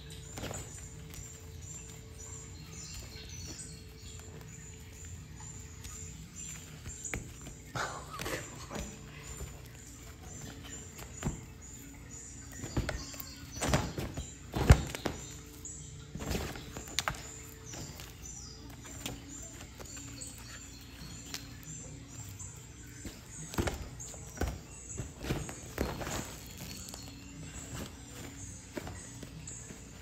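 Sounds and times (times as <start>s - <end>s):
background music: 0.0s - 30.0s
knocks and rustles in play tunnel: 0.0s - 30.0s.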